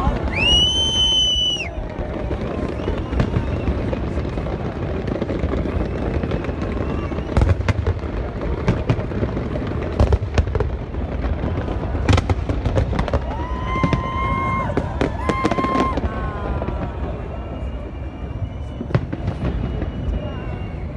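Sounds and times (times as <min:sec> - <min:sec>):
fireworks bangs: 0:00.0 - 0:20.9
fireworks whistles: 0:00.0 - 0:20.9.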